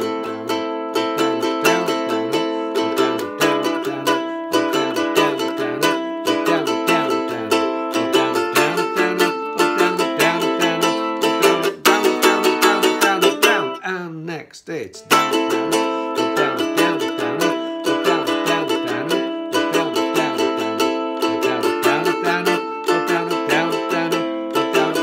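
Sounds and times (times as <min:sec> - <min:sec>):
acoustic guitar strummed: 0:00.0 - 0:13.9, 0:15.0 - 0:25.0.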